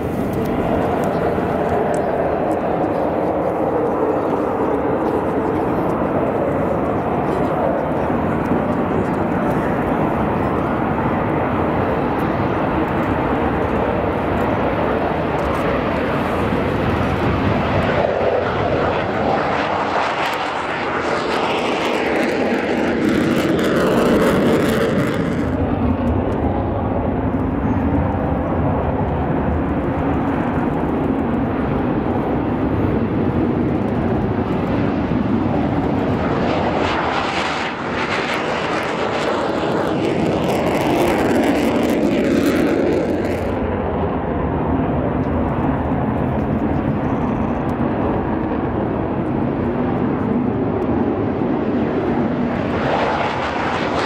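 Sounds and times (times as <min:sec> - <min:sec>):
jets flying low past: 0:00.0 - 0:54.0.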